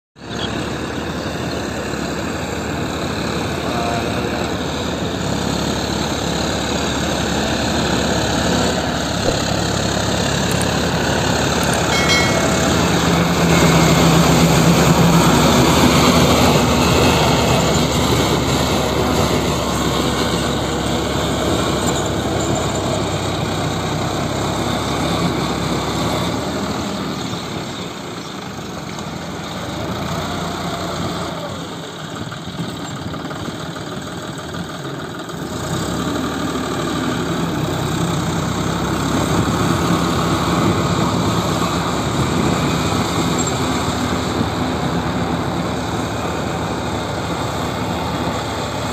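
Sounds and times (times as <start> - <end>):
tractor diesel engine under load: 0.2 - 48.9.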